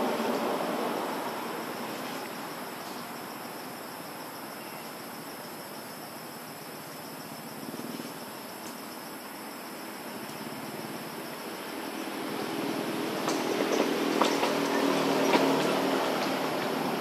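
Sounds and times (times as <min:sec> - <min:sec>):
insect drone: 0:00.0 - 0:17.0
outdoor hiss: 0:00.0 - 0:17.0.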